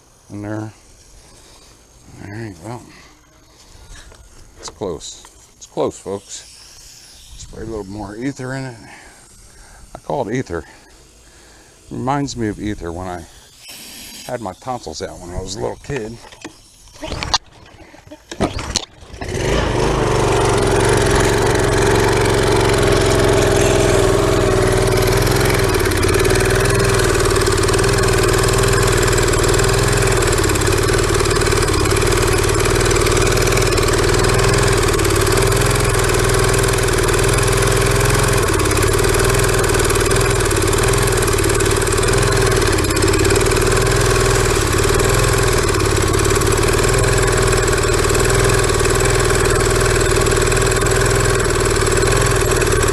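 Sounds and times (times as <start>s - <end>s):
small engine running: 0.0s - 52.9s.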